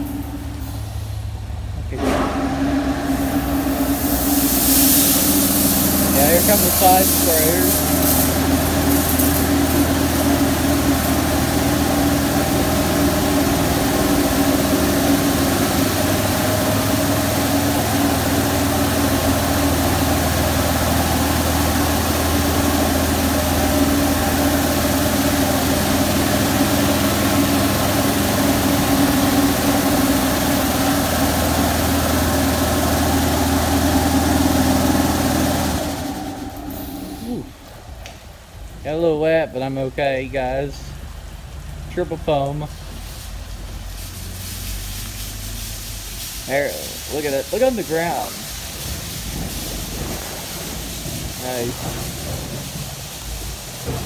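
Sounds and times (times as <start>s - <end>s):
pump humming: 0.0s - 54.0s
water jets hissing on car: 3.0s - 54.0s.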